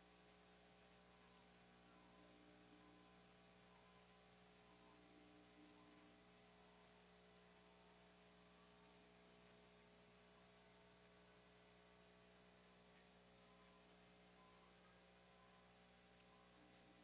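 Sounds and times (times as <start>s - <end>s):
faint electrical hum and hiss: 0.0s - 17.0s.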